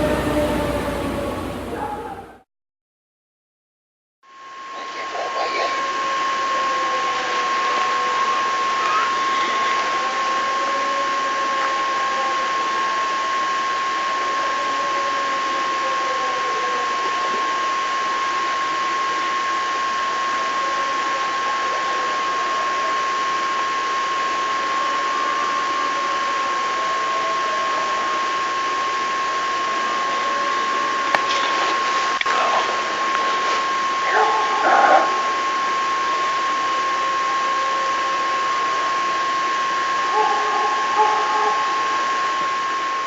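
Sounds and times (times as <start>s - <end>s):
high-pitched whine: 0.0s - 2.4s, 4.3s - 43.0s.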